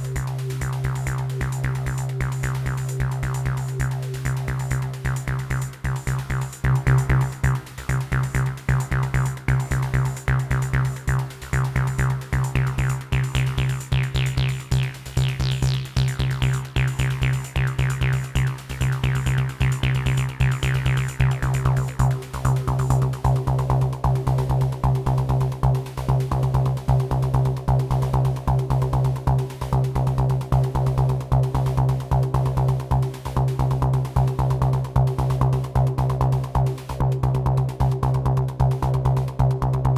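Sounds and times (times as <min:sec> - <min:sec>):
drum machine techno beat: 0:00.0 - 0:39.9.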